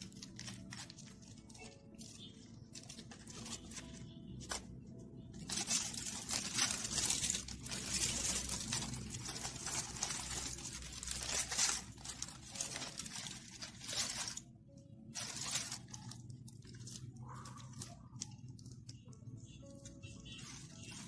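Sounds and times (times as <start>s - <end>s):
aluminium foil crinkling: 0.0s - 21.0s.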